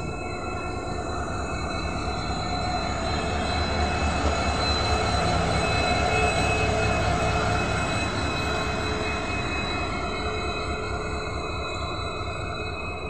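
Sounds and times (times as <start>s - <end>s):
diesel locomotive engine drone: 0.0s - 13.0s
high whine: 0.0s - 13.0s.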